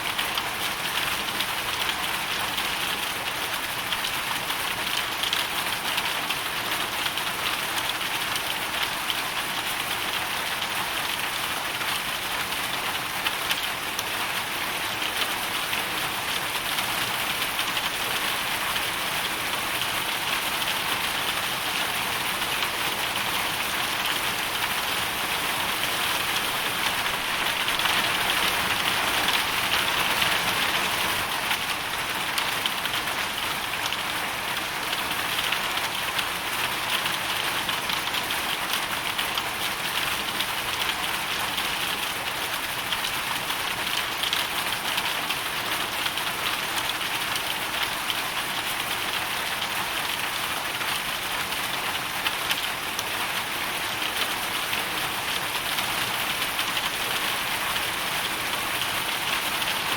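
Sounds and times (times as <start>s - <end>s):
hail and rain on hard surface: 0.0s - 59.9s.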